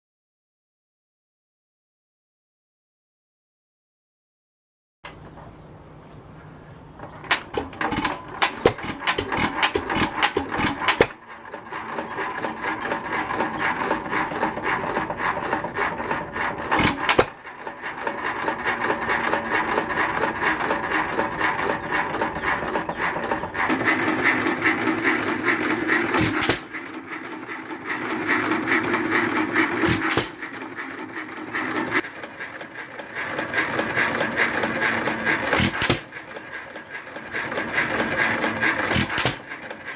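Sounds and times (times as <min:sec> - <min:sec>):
engine clattering with rapid ticks: 0:07.0 - 0:39.9.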